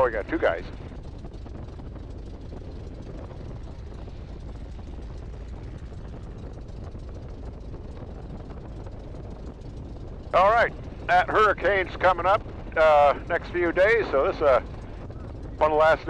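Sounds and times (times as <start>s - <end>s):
plane piston engine idling: 0.0s - 16.0s.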